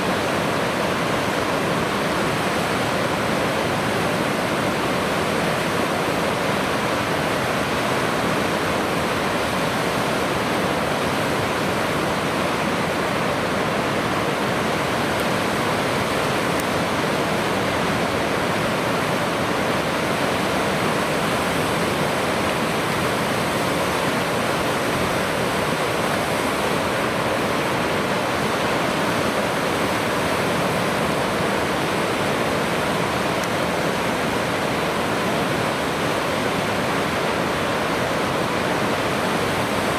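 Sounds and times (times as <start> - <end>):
fast-flowing water rushing: 0.0 - 39.9.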